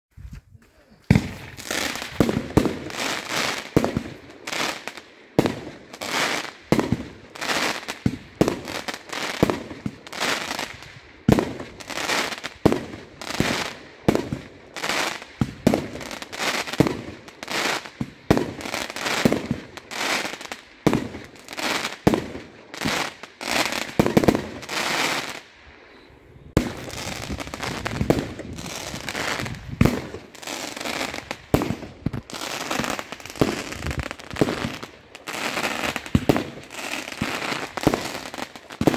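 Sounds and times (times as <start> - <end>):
fireworks bangs: 1.1 - 25.5, 26.5 - 38.9.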